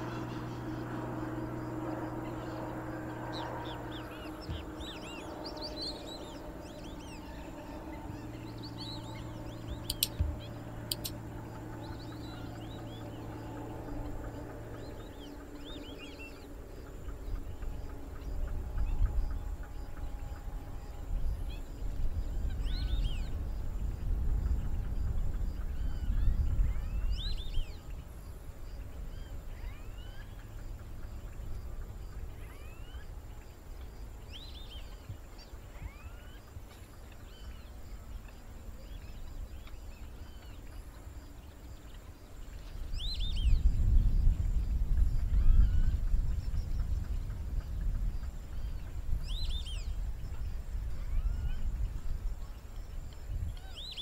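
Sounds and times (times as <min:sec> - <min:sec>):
birds chirping: 0:00.0 - 0:54.0
wind rumble on microphone: 0:00.0 - 0:54.0.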